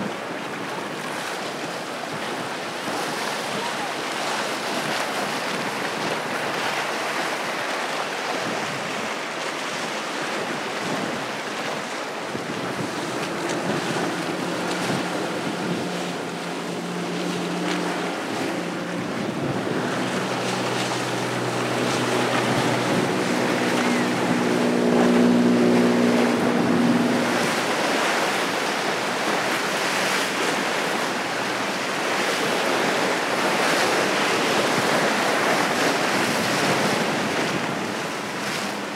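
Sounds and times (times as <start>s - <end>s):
boat engines passing: 0.0s - 38.9s
waves and surf: 0.0s - 38.9s
wind buffeting microphone: 0.0s - 38.9s.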